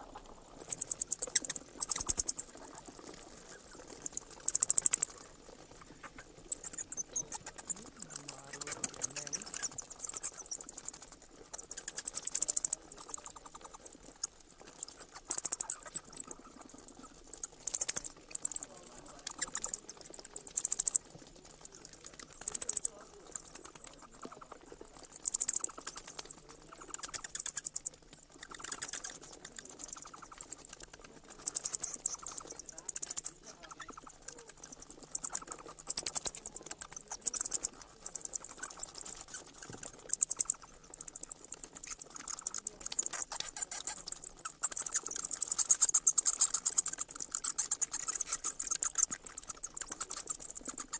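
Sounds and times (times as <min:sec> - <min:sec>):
night insects trilling: 0:00.0 - 0:50.9.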